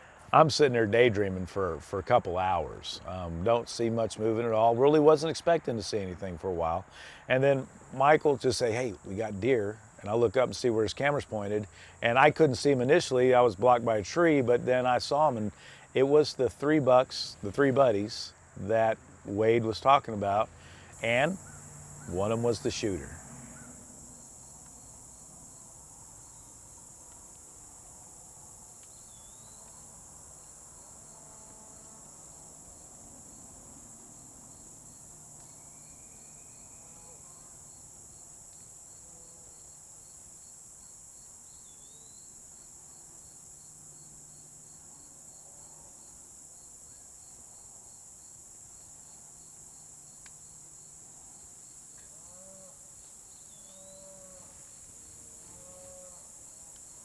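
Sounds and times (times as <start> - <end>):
crickets and insects buzzing: 0.0 - 57.0.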